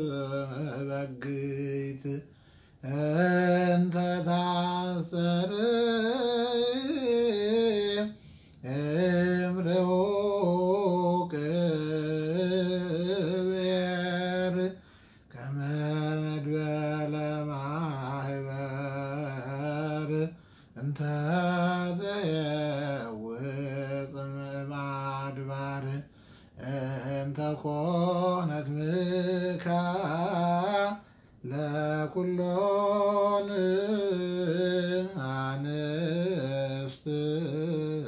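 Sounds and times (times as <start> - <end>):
man chanting a hymn: 0.0 - 38.0.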